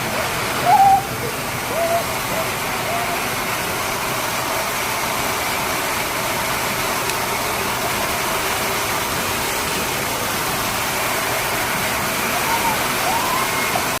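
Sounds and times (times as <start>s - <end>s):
blow dryer running: 0.0s - 14.0s.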